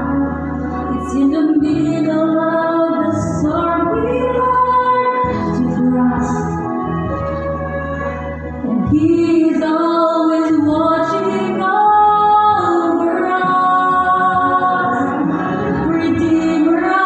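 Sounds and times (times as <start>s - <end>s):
backing music: 0.0s - 17.0s
woman singing slow song: 0.0s - 17.0s.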